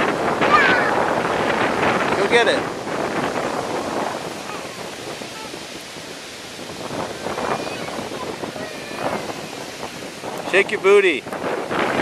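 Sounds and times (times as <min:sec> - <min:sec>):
surf: 0:00.0 - 0:12.0
wind buffeting the microphone: 0:00.0 - 0:12.0.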